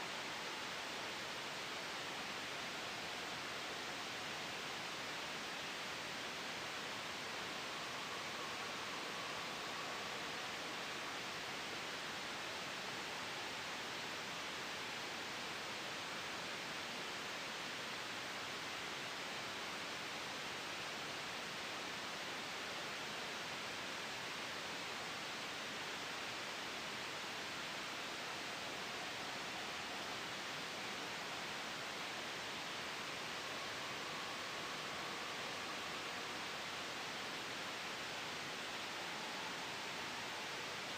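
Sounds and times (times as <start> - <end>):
white noise: 0.0 - 40.9.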